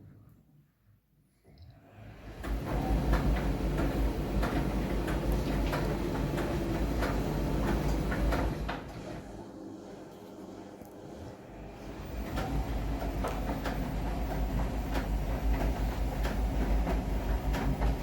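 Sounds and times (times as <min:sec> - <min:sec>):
washing machine motor hum: 0:01.8 - 0:18.0.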